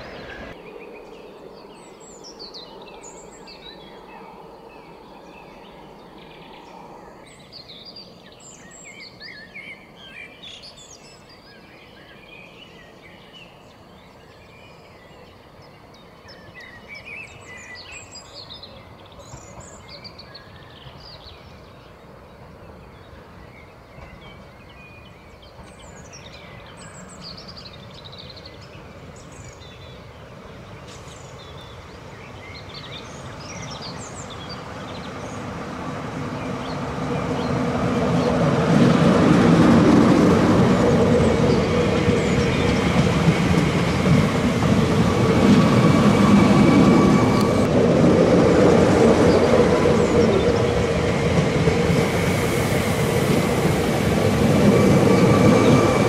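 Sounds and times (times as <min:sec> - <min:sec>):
approaching train rumble: 0:00.0 - 0:56.0
rural background noise: 0:00.0 - 0:56.0.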